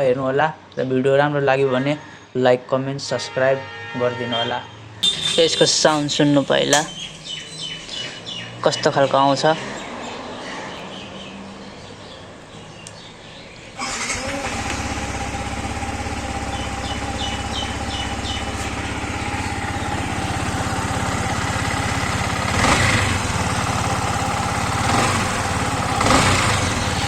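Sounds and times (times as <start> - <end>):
motorcycle engine with harsh rattle: 5.0 - 27.0.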